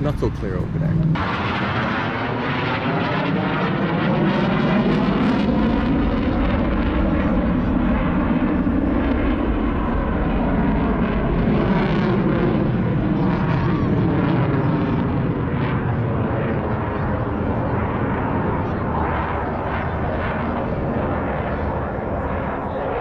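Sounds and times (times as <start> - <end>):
aircraft engine rushing past: 0.0 - 23.0.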